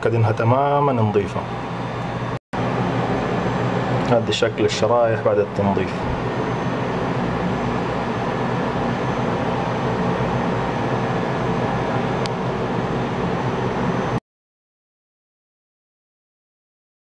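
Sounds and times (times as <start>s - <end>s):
mechanical drone with low hum: 0.0s - 14.2s.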